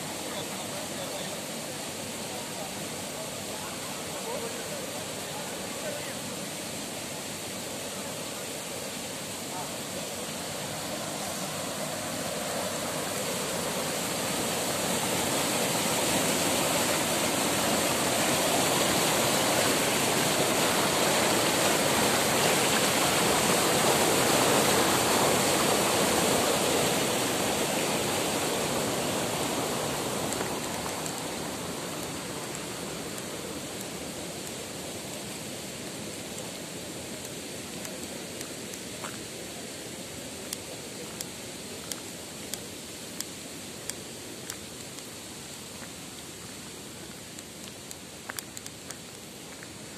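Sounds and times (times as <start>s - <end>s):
water rushing over causeway: 0.0s - 49.9s.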